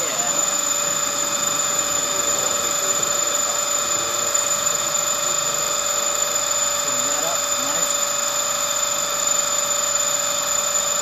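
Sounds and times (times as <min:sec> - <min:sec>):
machine whine over hiss: 0:00.0 - 0:11.0.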